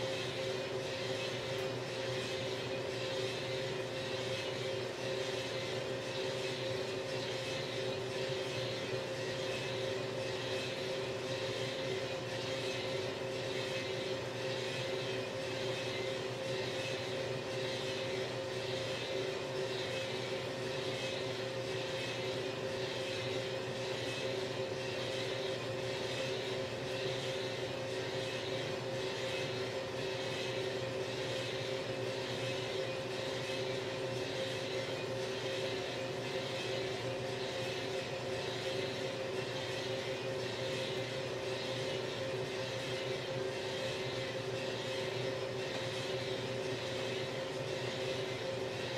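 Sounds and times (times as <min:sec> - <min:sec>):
coffee roaster motor and fan hum: 0:00.0 - 0:48.9.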